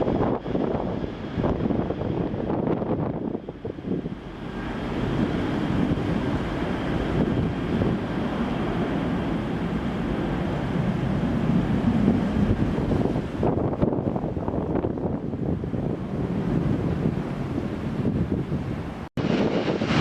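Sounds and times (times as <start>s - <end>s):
jet airliner roar: 0.0s - 20.0s
rushing air: 0.0s - 20.0s.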